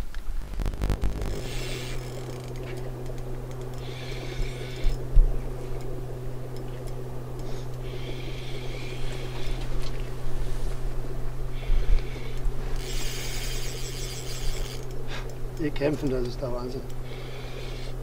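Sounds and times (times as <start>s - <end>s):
high whirring: 0.0s - 18.0s
boat motor humming: 0.2s - 18.0s.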